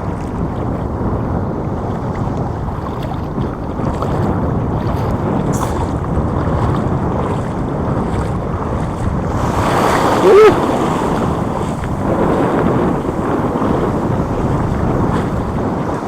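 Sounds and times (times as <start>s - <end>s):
waves washing in: 0.0s - 16.0s
wind buffeting microphone: 0.0s - 16.0s.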